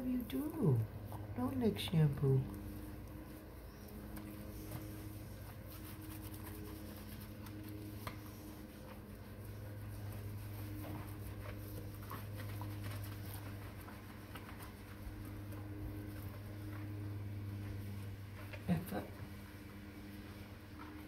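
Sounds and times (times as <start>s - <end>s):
squishing and rubbing wet fur: 0.0s - 21.0s
steady low hum: 0.0s - 21.0s.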